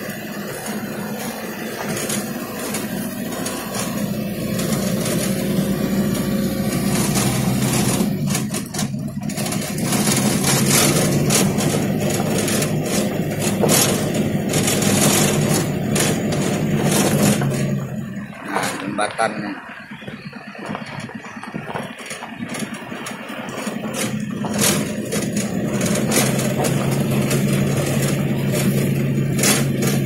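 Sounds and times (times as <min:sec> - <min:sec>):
tyres on gravel road: 0:00.0 - 0:30.0
vehicle engine running: 0:00.0 - 0:30.0.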